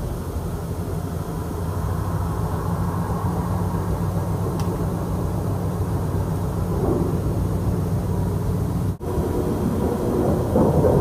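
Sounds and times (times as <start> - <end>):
loud low drone: 0.0 - 11.0.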